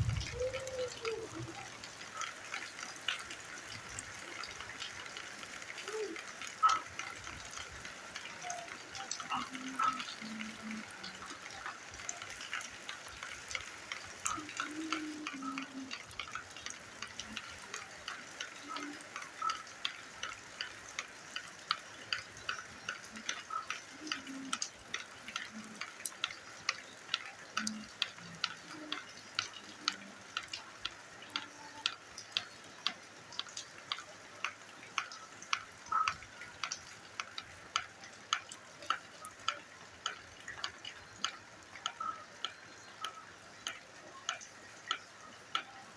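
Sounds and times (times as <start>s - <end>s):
rain dripping on ground: 0.0s - 45.9s.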